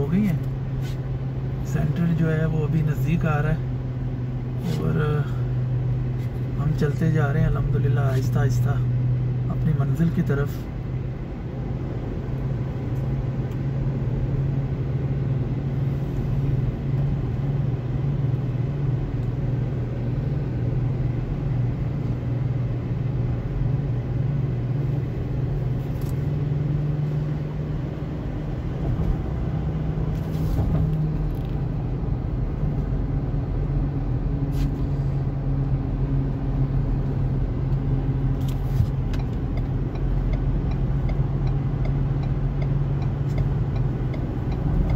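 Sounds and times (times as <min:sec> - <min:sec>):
car cabin engine and tyre drone: 0:00.0 - 0:44.9.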